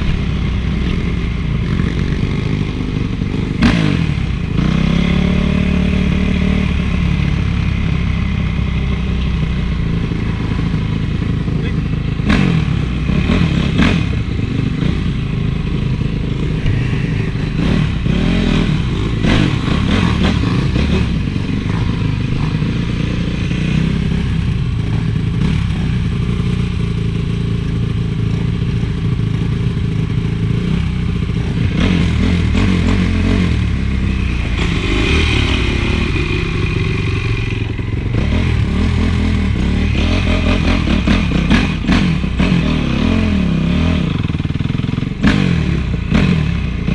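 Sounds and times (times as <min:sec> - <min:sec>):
motocross engine revving: 0:00.0 - 0:08.6, 0:09.6 - 0:28.1, 0:29.1 - 0:46.9.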